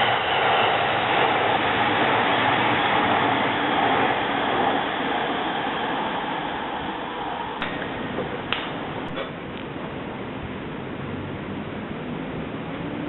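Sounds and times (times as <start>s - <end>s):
electric train running on rails: 0.0s - 13.0s.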